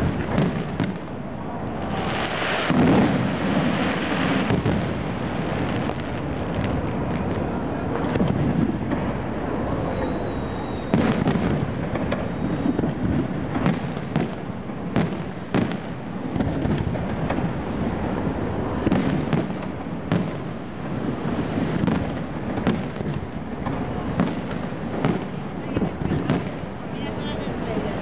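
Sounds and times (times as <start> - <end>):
crackling rumble: 0.0 - 28.0
firework bangs: 0.0 - 28.0.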